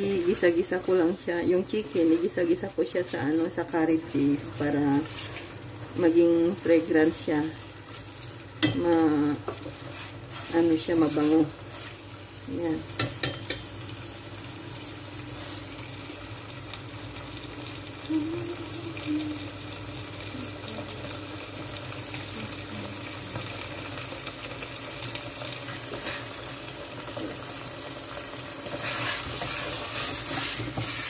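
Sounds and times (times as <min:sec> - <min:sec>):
meat sizzling in a pot: 0:00.0 - 0:31.0.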